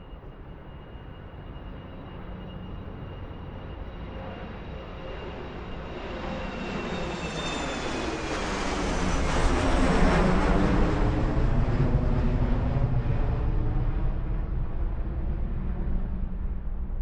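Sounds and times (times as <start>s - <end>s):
airplane engine overhead: 0.0s - 17.0s.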